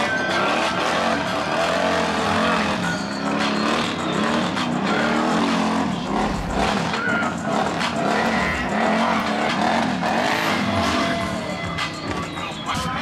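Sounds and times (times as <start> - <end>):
quad engine revving: 0.0 - 13.0.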